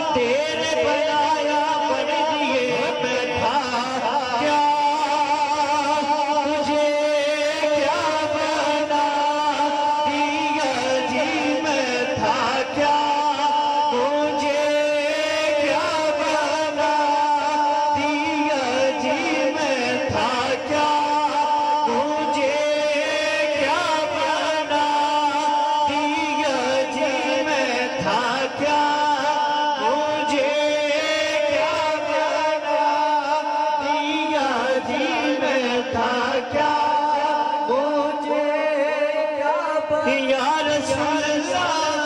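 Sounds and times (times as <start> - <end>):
man singing lead melody: 0.0 - 42.0.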